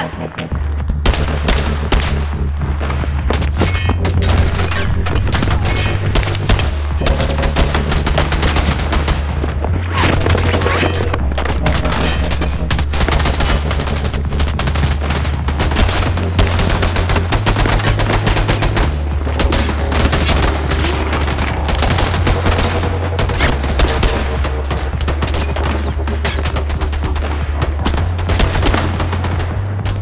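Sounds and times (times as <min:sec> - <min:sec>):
low rumble: 0:00.0 - 0:30.0
rapid gunfire: 0:01.0 - 0:30.0.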